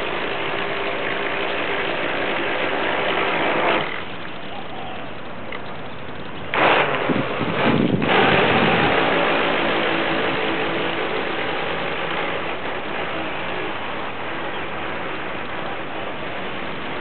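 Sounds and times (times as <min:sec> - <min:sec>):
model speedboat motor: 0:00.0 - 0:17.0.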